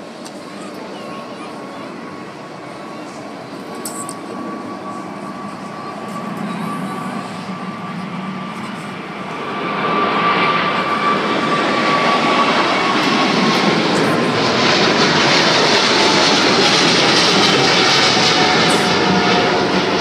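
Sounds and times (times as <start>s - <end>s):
high jet whine: 0.0s - 20.0s
jet engines roaring: 0.0s - 20.0s.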